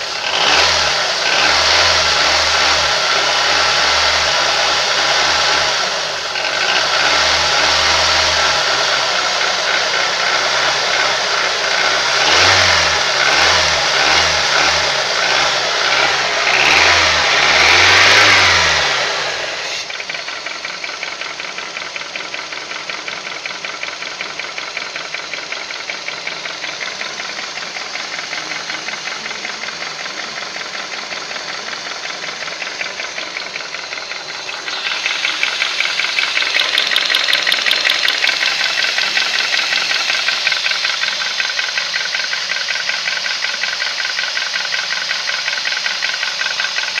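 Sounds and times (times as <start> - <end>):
rapid engine knock: 0.0 - 18.8, 19.8 - 47.0
car engine revving: 0.0 - 47.0.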